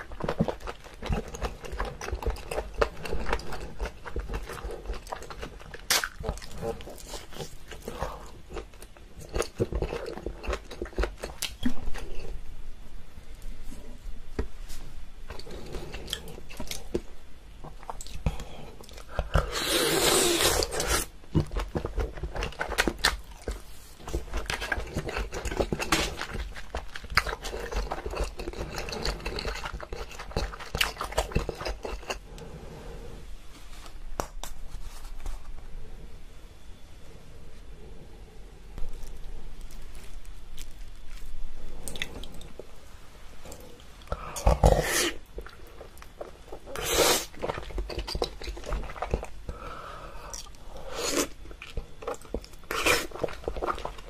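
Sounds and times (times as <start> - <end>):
person chewing crunchy food: 0.0 - 12.4, 15.3 - 32.7, 38.8 - 42.8, 43.4 - 54.0.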